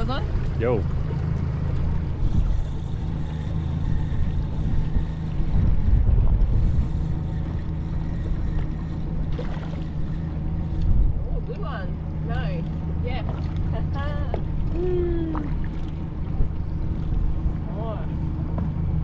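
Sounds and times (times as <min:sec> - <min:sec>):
outboard motor idling: 0:00.0 - 0:19.0
wind buffeting microphone: 0:00.0 - 0:19.0.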